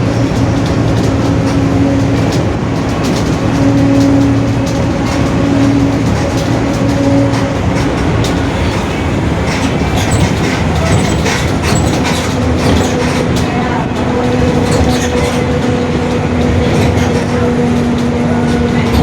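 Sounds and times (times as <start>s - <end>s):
bus differential howling: 0.0s - 19.0s
road noise: 0.0s - 19.0s.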